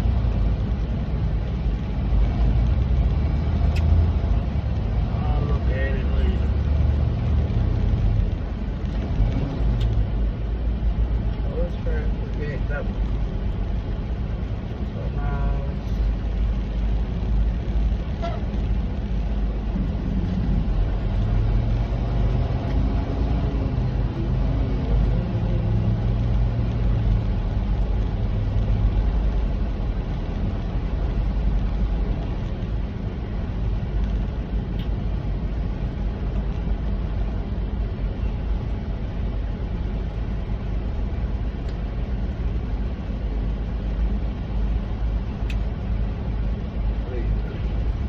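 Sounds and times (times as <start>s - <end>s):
truck engine and road rumble: 0.0s - 48.0s.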